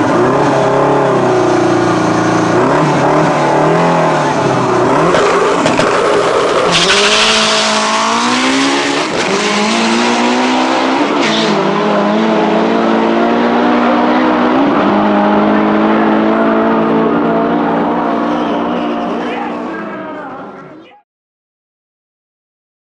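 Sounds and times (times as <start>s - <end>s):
car engine at full throttle: 0.0s - 20.8s.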